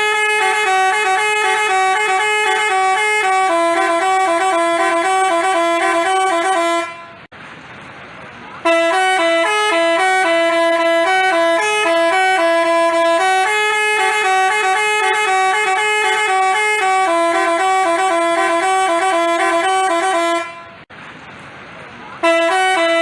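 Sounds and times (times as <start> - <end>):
bus horn playing a tune: 0.0 - 7.3, 8.6 - 20.9, 22.2 - 23.0.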